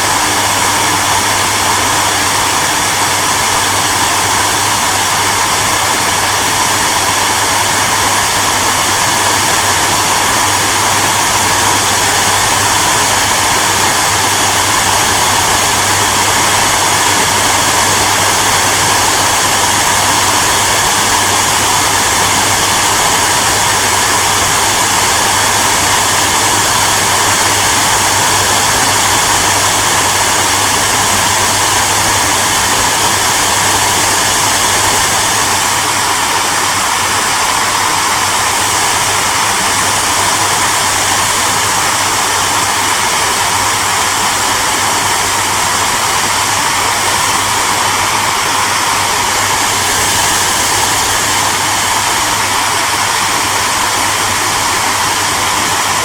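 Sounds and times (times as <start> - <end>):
hairdryer blowing air: 0.0 - 56.0.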